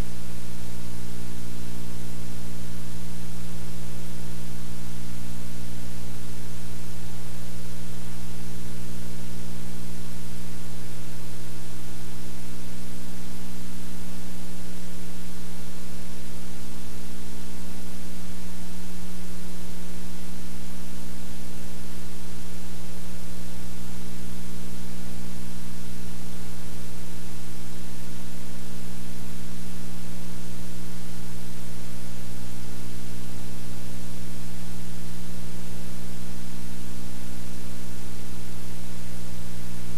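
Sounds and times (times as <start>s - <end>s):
constant hiss: 0.0s - 39.9s
low electrical hum: 0.0s - 39.9s.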